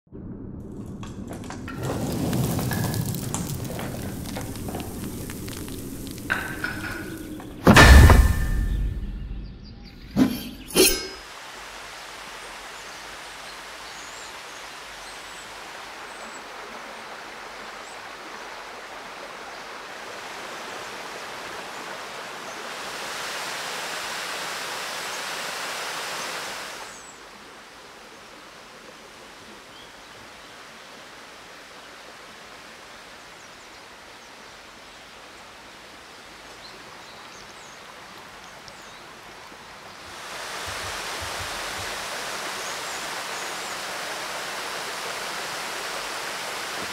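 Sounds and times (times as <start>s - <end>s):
stream and waterfall rushing: 1.8s - 8.7s, 10.8s - 46.9s.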